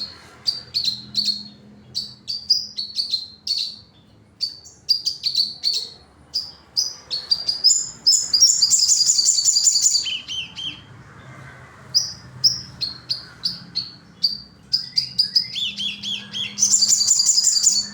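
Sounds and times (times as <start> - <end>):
sunbird singing: 0.0 - 10.9, 12.0 - 17.9.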